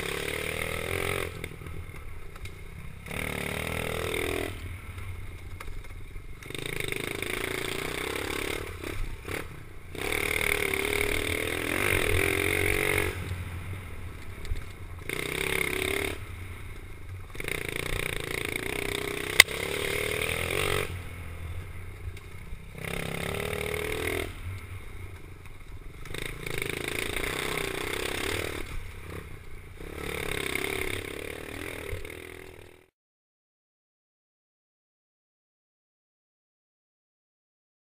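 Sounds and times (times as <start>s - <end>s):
pit bike engine revving: 0.0s - 5.7s, 6.4s - 25.3s, 25.9s - 32.9s.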